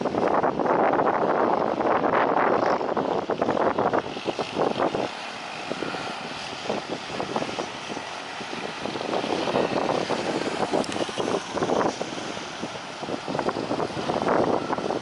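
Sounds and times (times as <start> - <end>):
propeller aircraft engines: 0.0 - 15.0
wind buffeting microphone: 0.0 - 15.0.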